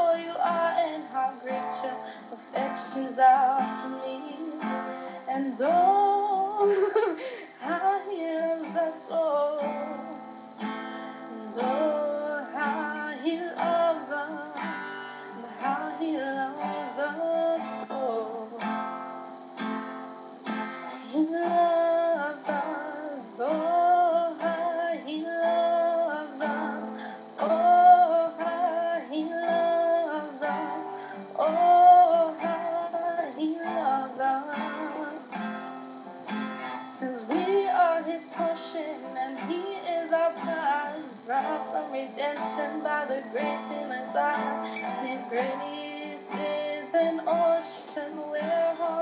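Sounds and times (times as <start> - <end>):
strummed acoustic guitar: 0.0 - 49.0
woman singing slow song: 0.0 - 49.0.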